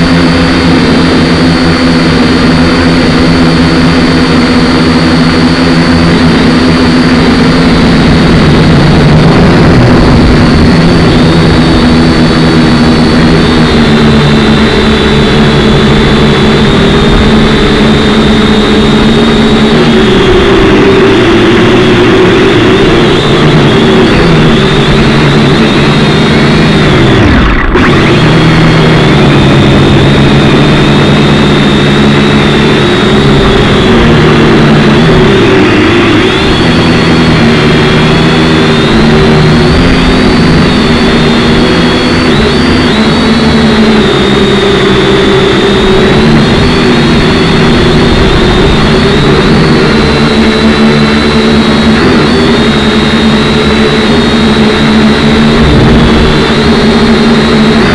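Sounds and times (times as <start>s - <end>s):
quadcopter motors whining: 0.0s - 57.9s.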